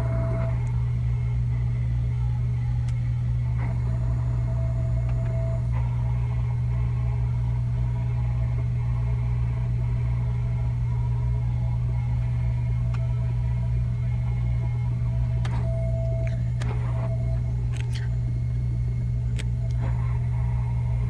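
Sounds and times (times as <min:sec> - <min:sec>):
faint high whine: 0:00.0 - 0:21.0
loud low hum: 0:00.0 - 0:21.0.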